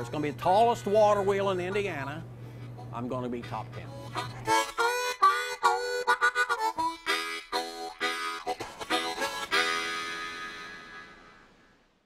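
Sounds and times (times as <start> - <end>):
harmonica music: 0.0 - 11.9.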